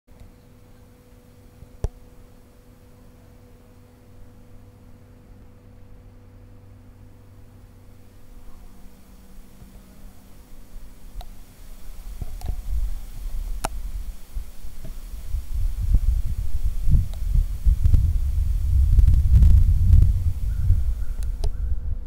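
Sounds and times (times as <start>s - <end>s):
low irregular rumbling: 0.4s - 22.0s.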